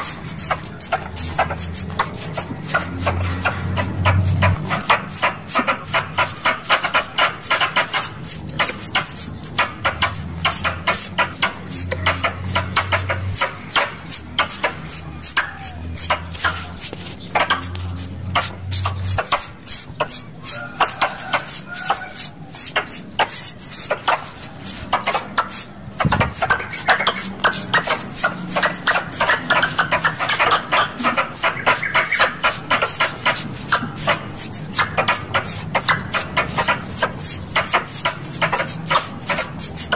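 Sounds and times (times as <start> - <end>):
high-pitched squirrel chirps: 0.0 - 39.9.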